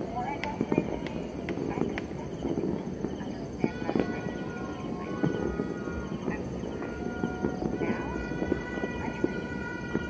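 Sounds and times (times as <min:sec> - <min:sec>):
distant fireworks popping: 0:00.0 - 0:10.0.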